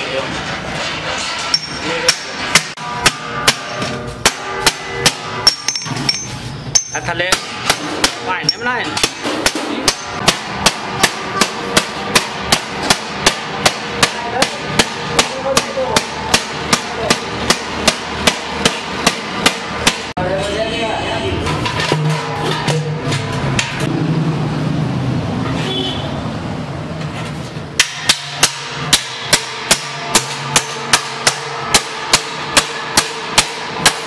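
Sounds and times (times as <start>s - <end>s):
hammer beating metal: 0.0s - 20.3s, 21.4s - 24.1s, 27.7s - 34.0s.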